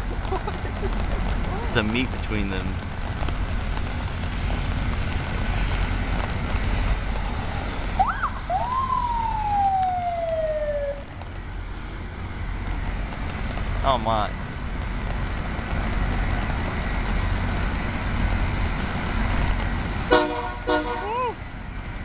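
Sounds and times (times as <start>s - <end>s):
diesel locomotive engines rumbling: 0.0s - 22.0s.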